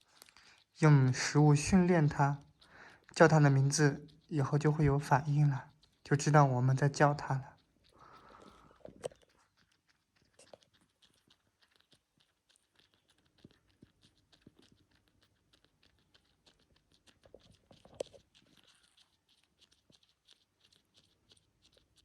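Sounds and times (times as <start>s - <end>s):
kitten suckling: 0.0s - 22.0s.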